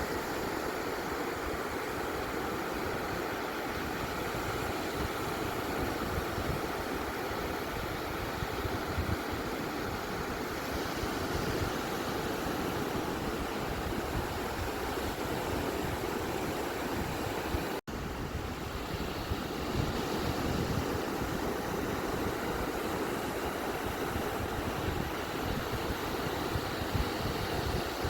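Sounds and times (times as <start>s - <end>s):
ocean waves washing on beach: 0.0s - 28.0s.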